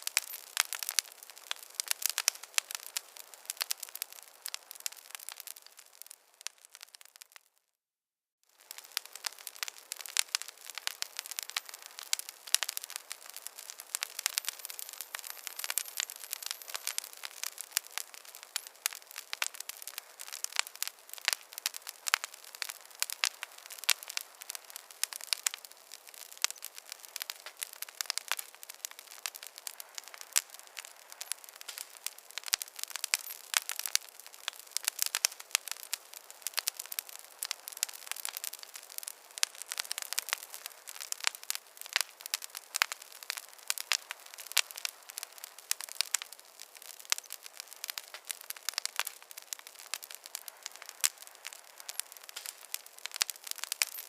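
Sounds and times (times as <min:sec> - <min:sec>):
fireplace fire crackling: 0:00.0 - 0:07.6, 0:08.5 - 0:54.0.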